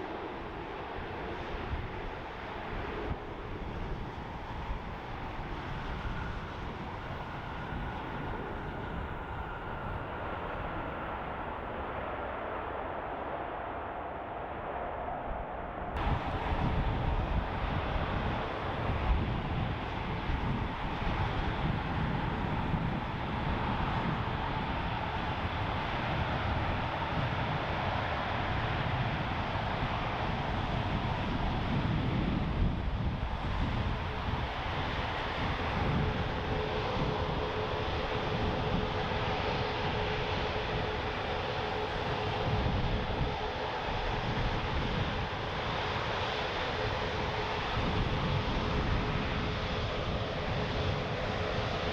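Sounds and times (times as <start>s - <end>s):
jet engines running: 0.0s - 51.9s
wind rumbling on microphone: 0.0s - 51.9s.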